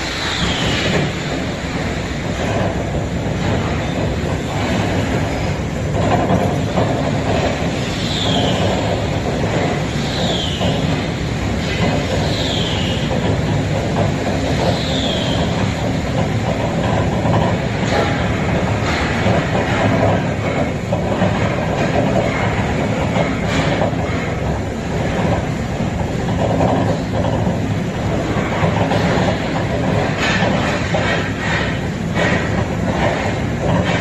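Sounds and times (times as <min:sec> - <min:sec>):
machine cutting metal rattling: 0:00.0 - 0:34.0.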